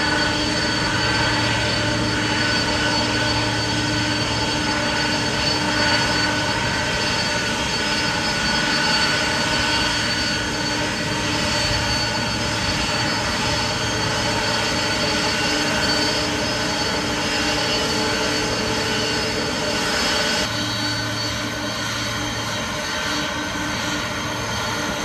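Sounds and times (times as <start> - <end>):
jet engine whining tones: 0.0 - 25.0
jet engines roaring: 0.0 - 25.0.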